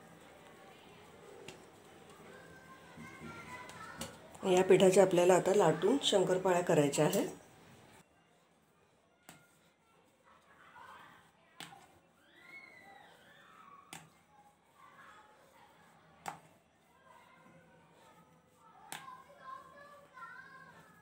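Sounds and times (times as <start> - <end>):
rolling pin rolling dough: 0.0 - 21.0.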